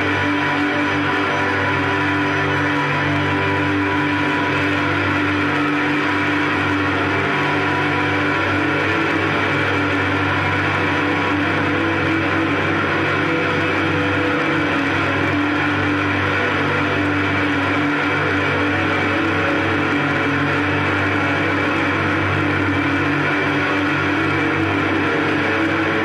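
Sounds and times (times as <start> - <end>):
electric guitar drone: 0.0 - 26.0.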